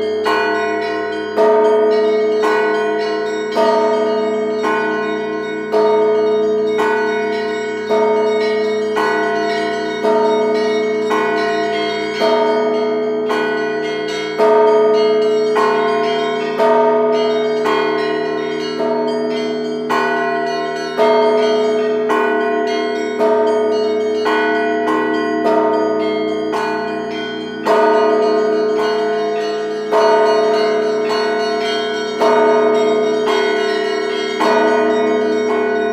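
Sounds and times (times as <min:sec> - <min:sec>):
big bells humming: 0:00.0 - 0:35.9
heavy bell striking: 0:00.0 - 0:35.9
small bells ringing rhythmically: 0:00.0 - 0:35.9.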